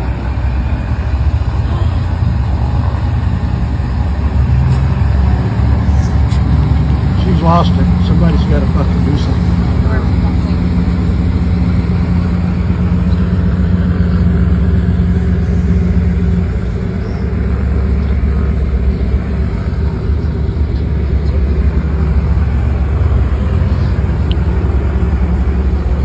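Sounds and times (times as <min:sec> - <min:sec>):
floatplane engine rumble: 0:00.0 - 0:26.0
motorboat running at speed: 0:00.0 - 0:26.0.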